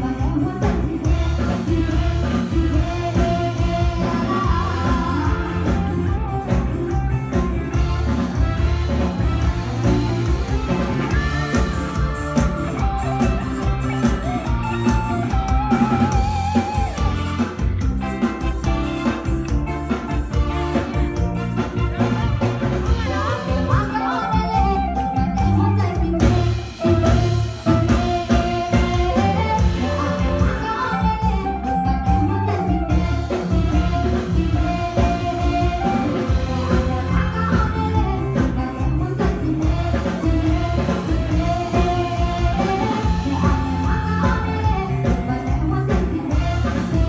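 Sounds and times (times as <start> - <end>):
drum kit: 0.0 - 47.0
electric guitar: 0.0 - 47.0
person singing: 0.0 - 47.0.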